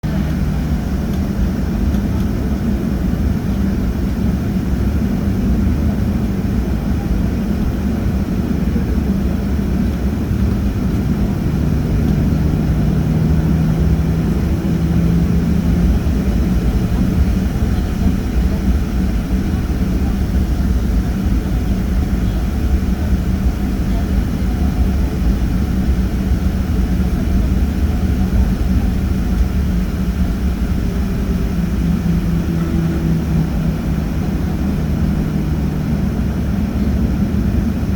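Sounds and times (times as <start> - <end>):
airliner engines droning: 0.0 - 37.9.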